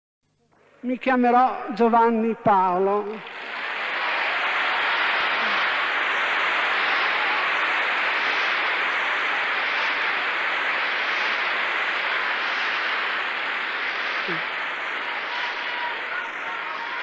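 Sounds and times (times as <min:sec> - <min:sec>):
crowd applauding: 0:03.1 - 0:17.0.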